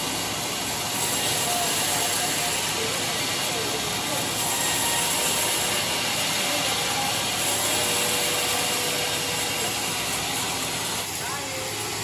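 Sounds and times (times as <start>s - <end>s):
band saw blade cutting log: 0.0s - 12.0s.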